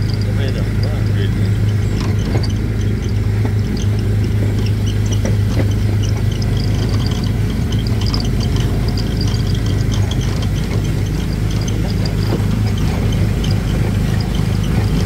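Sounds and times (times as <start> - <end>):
small gasoline engine droning: 0.0 - 15.0.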